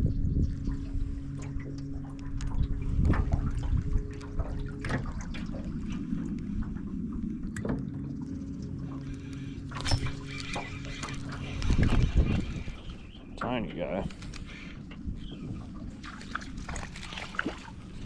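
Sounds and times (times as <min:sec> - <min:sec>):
steady low hum: 0:00.0 - 0:18.0
water trickling and sloshing: 0:00.0 - 0:18.0.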